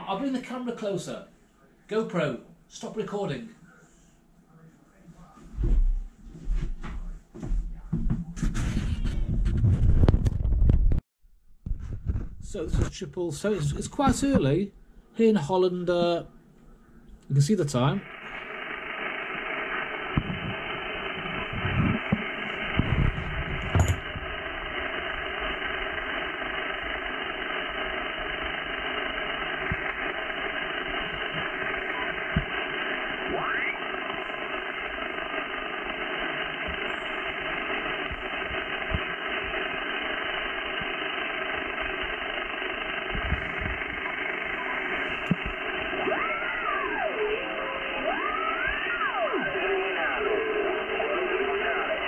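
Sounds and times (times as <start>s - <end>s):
radio static and hiss: 0.0s - 11.0s, 11.7s - 52.0s.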